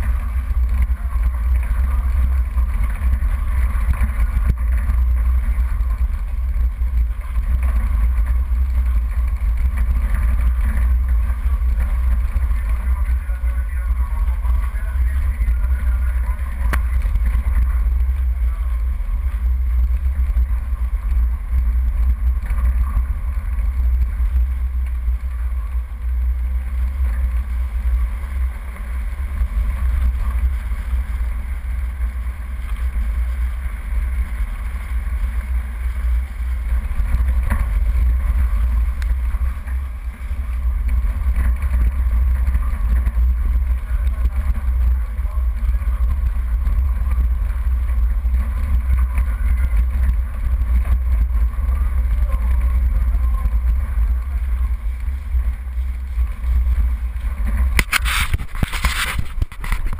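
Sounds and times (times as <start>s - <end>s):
off-road vehicle engine and tyres: 0.0s - 59.9s.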